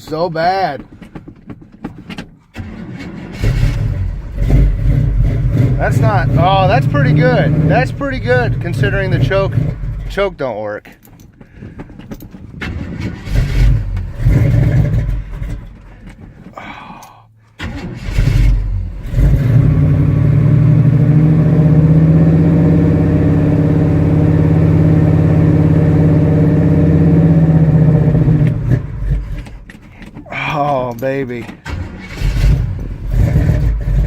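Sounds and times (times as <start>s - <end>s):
pickup engine cranking: 0.0s - 34.0s.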